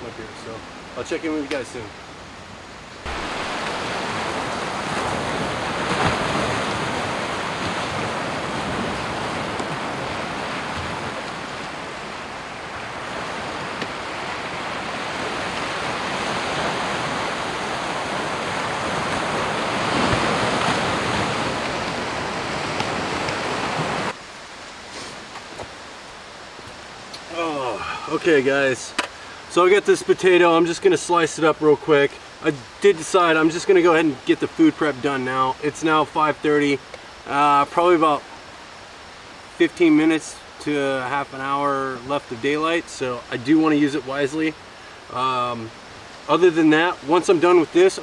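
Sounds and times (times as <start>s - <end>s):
small waves washing onto beach: 0.4s - 48.0s.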